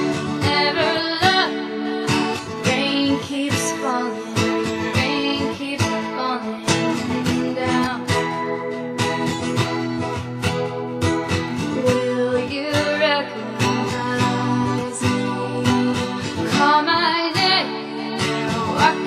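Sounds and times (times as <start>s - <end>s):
person singing: 0.0s - 8.7s, 11.6s - 19.0s
strummed acoustic guitar: 0.0s - 19.0s.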